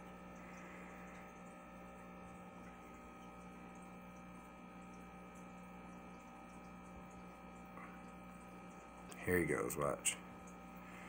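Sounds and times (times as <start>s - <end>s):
aquarium pump hum: 0.0s - 11.0s.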